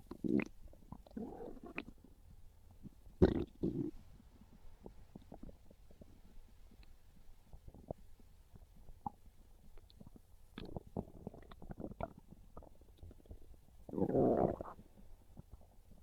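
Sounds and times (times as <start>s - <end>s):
stomach gurgling and growling: 0.0s - 16.0s.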